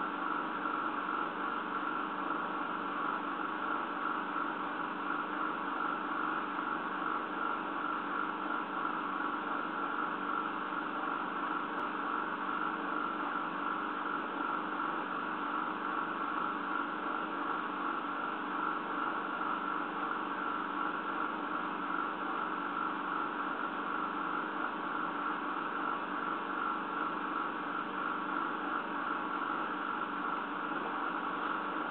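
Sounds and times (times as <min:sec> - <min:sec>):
steady hum with hiss: 0:00.0 - 0:31.9.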